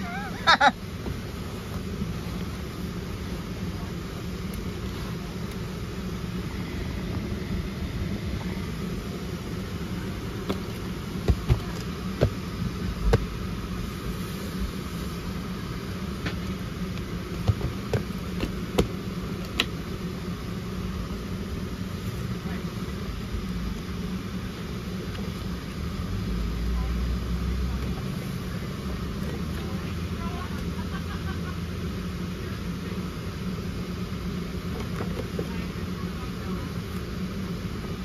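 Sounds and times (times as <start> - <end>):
cabin air hum: 0.0 - 38.0.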